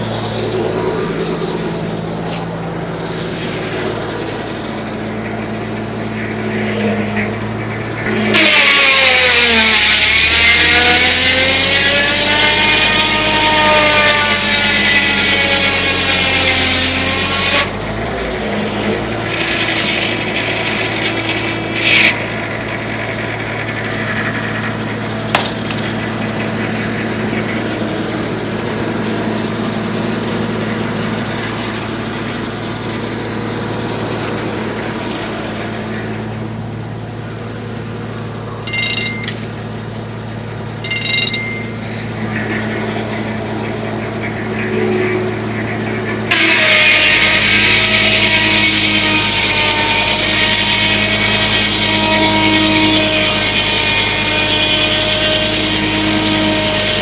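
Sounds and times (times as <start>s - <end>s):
high-pitched squeals: 0.0s - 22.4s, 23.0s - 57.0s
sawmill blade cutting log: 0.0s - 57.0s.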